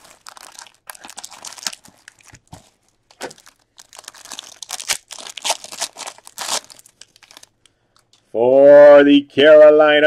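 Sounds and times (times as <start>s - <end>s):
card pack wrapper crinkling: 0.0s - 8.1s.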